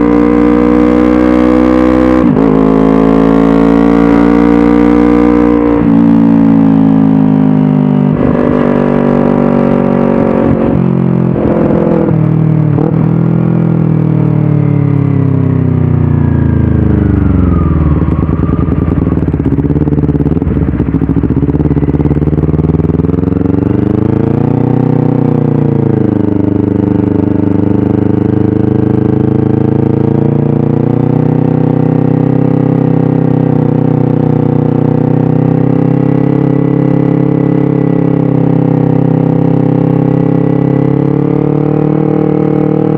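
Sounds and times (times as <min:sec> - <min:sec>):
motorcycle engine while riding: 0:00.0 - 0:42.9.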